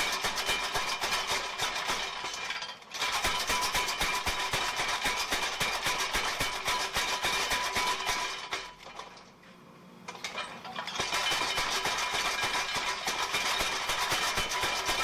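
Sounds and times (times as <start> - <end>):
power hammer striking steel: 0.0 - 8.8, 10.9 - 15.0.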